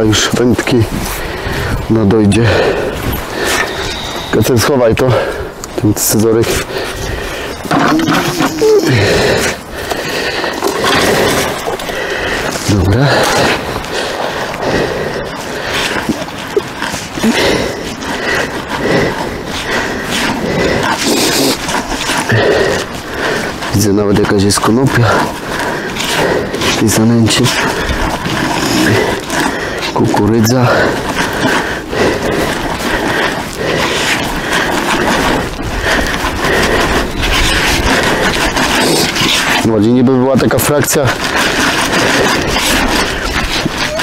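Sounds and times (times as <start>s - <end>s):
groundbait rubbing and rustling: 0.0s - 44.0s.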